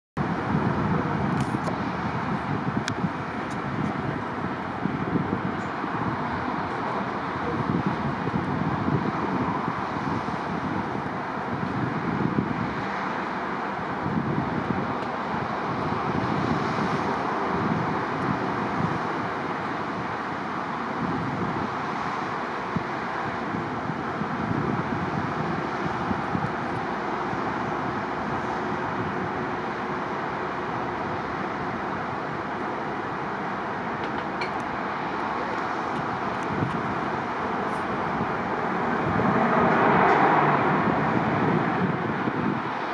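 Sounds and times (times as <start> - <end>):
distant jet engines: 0.2 - 42.9
wind on microphone: 0.2 - 42.9.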